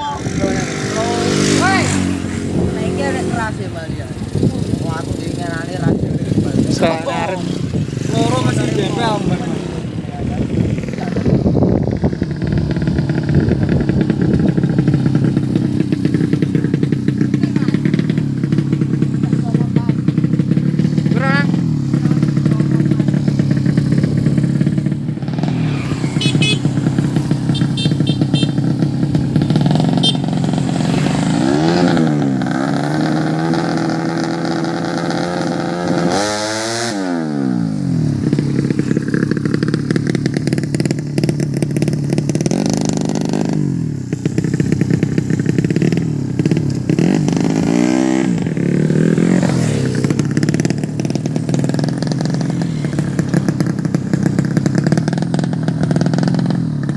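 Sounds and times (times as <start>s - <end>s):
motorcycle engines revving: 0.0s - 56.9s.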